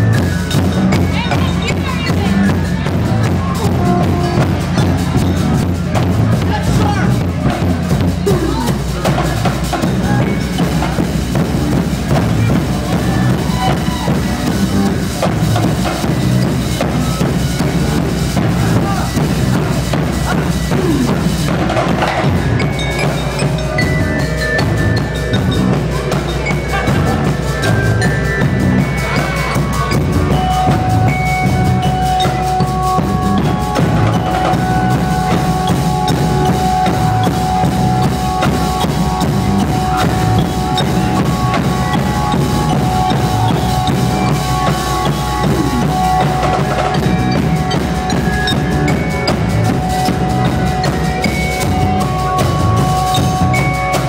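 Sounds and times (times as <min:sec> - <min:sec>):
held notes from pitched instruments: 0:00.0 - 0:54.0
mallet keyboard percussion: 0:00.0 - 0:54.0
marching band drums: 0:00.0 - 0:54.0.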